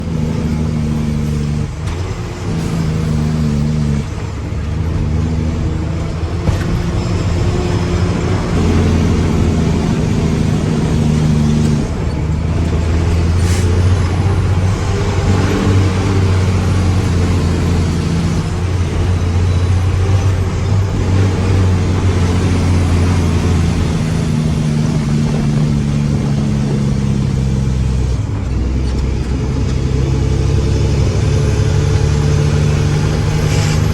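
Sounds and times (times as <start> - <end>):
truck diesel engine revving: 0.0 - 33.9.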